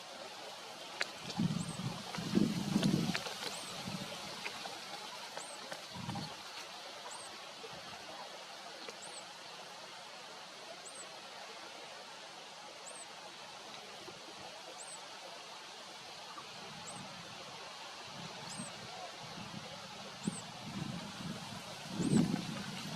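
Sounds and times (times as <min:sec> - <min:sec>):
steady outdoor hiss: 0:00.0 - 0:22.9.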